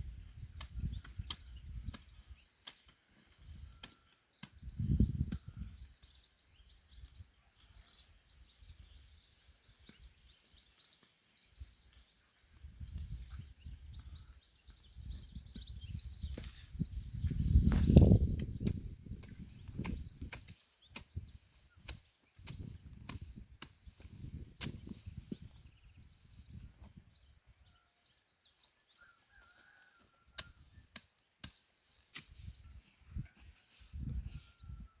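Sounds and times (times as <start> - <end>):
digging in soil: 0.0 - 28.0, 29.0 - 35.0.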